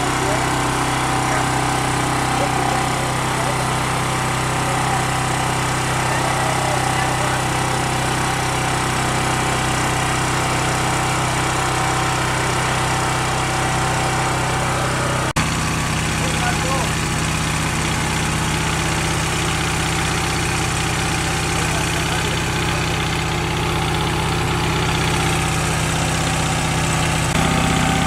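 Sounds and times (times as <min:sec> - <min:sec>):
generator engine droning: 0:00.0 - 0:28.0.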